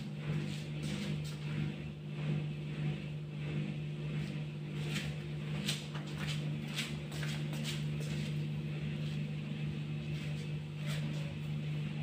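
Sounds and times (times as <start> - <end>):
dishwasher drain pump humming: 0.0 - 12.0.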